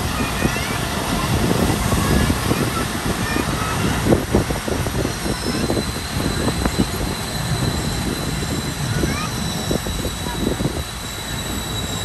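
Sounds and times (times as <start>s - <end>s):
high brake squeal: 0.0s - 12.0s.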